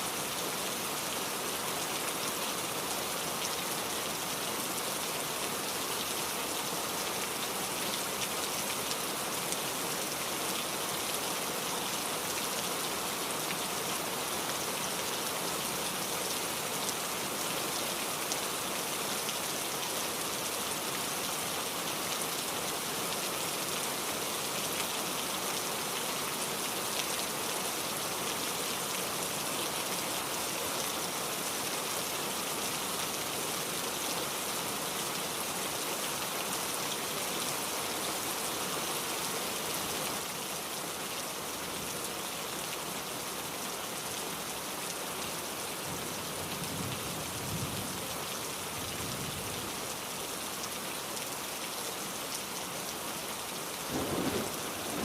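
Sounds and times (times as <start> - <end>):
heavy rain falling: 0.1 - 55.0.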